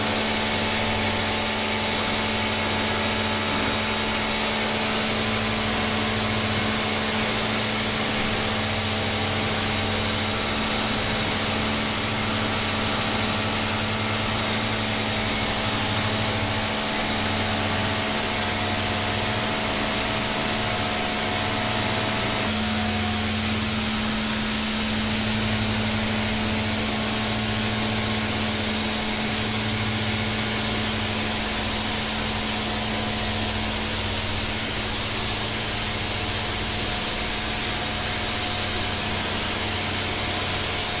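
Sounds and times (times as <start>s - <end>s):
electric motor and pump humming: 0.0s - 41.0s.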